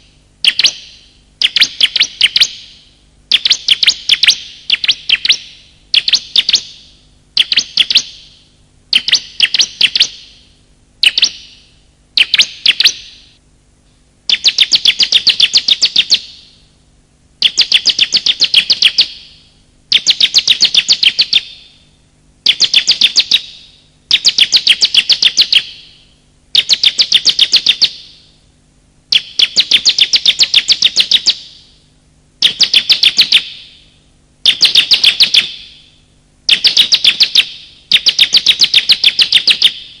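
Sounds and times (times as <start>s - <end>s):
bird chirping rapidly: 0.4s - 13.3s, 14.3s - 16.6s, 17.4s - 21.8s, 22.4s - 28.2s, 29.1s - 31.6s, 32.4s - 33.8s, 34.4s - 35.9s, 36.5s - 40.0s.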